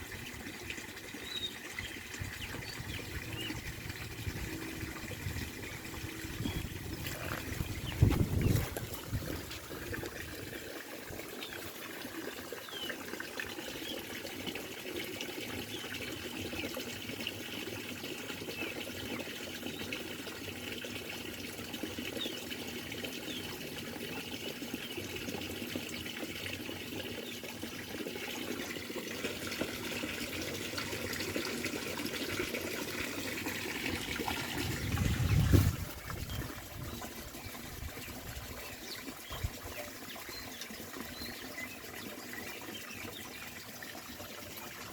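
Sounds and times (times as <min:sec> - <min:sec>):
water trickling down fish ladder: 0:00.0 - 0:44.9.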